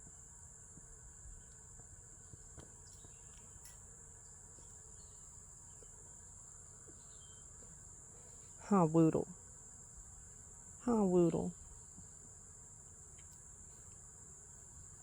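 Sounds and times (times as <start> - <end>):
high-pitched insect chorus: 0.2 - 15.0.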